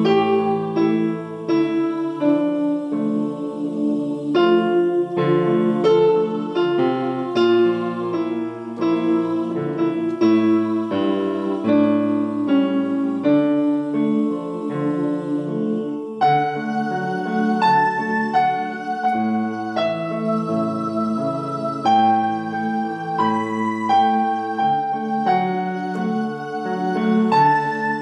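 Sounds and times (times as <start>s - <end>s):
slow piano chords and melody: 0.0s - 28.0s.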